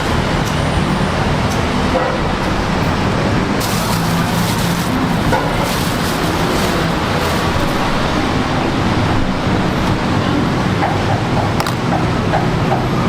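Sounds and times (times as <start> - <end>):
street stall din: 0.0 - 13.0
traffic rumble: 0.0 - 13.0.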